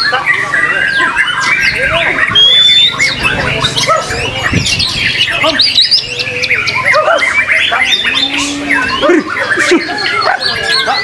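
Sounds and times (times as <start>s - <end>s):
songbirds singing together: 0.0s - 11.0s.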